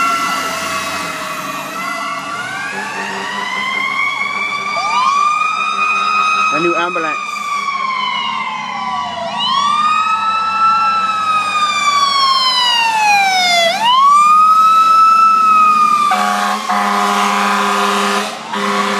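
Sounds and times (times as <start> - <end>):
ambulance siren wailing: 0.0 - 18.9.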